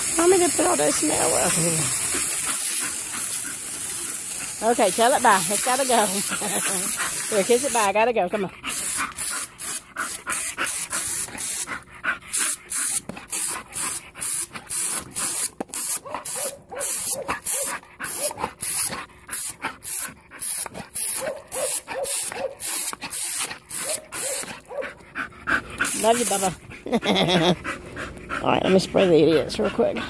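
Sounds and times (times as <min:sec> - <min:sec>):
dog panting: 0:00.2 - 0:14.8, 0:16.1 - 0:30.0.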